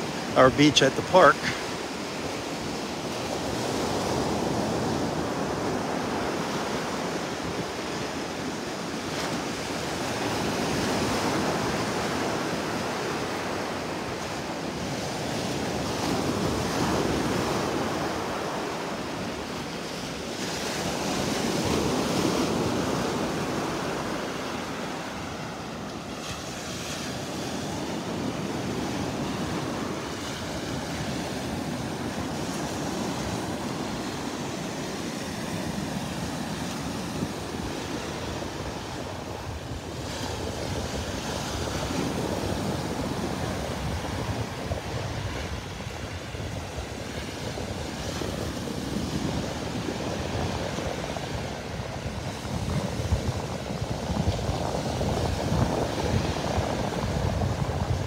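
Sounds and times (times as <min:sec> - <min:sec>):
surf breaking on sandy beach: 0:00.0 - 0:58.0.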